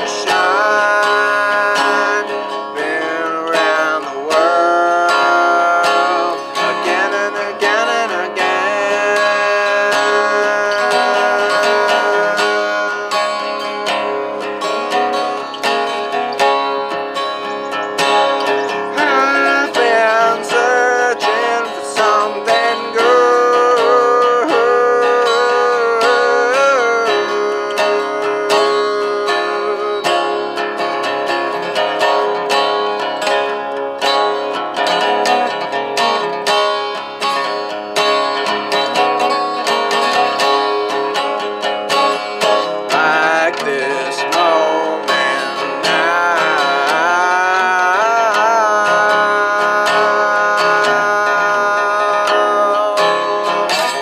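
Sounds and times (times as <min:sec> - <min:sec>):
man singing: 0:00.0 - 0:17.0, 0:18.0 - 0:36.4, 0:37.2 - 0:54.0
fingerpicked resonator guitar: 0:00.0 - 0:54.0.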